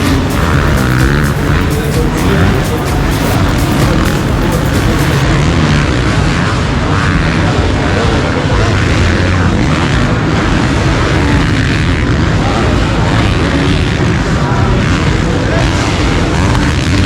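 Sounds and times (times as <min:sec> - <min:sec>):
deep rumble: 0:00.0 - 0:16.6
din of busy show hall: 0:00.0 - 0:17.0.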